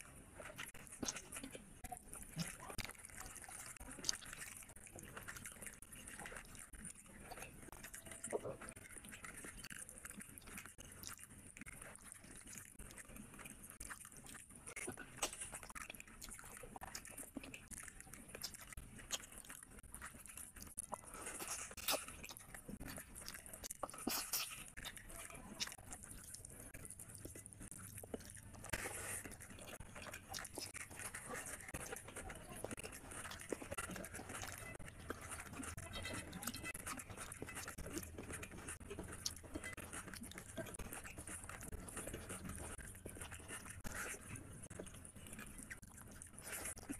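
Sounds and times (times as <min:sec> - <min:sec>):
wet chewing and lip smacking: 0:00.0 - 0:46.9.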